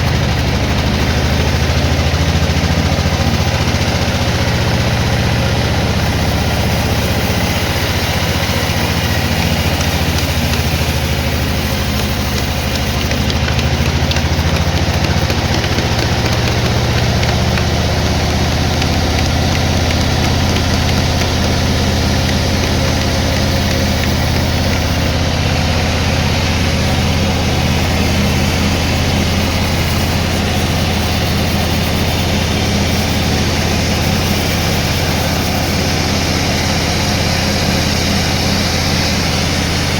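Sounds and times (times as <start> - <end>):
sawmill machinery engine drone: 0.0 - 39.9.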